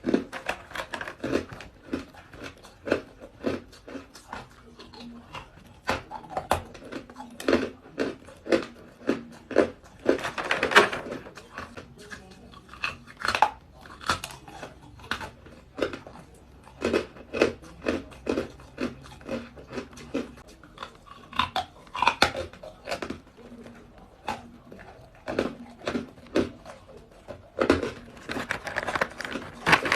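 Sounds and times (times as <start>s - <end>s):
ice cubes crunched by teeth: 0.0s - 11.9s, 12.6s - 29.9s.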